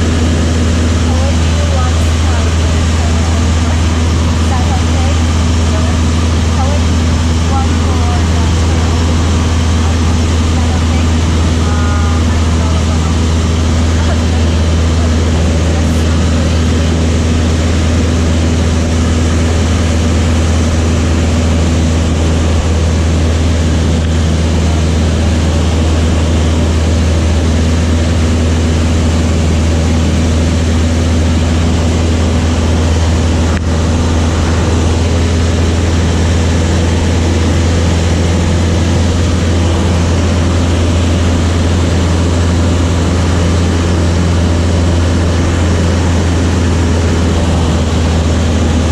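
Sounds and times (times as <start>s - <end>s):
propeller aircraft engine droning: 0.0s - 48.9s.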